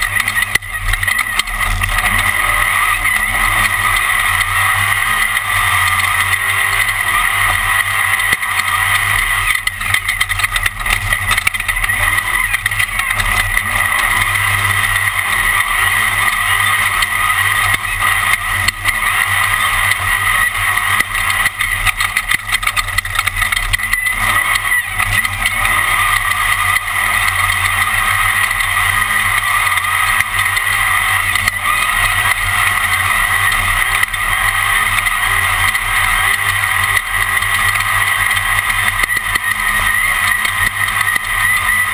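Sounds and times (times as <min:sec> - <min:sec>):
car clattering over rough ground: 0:00.0 - 0:41.9
race car engine running hard: 0:00.0 - 0:41.9.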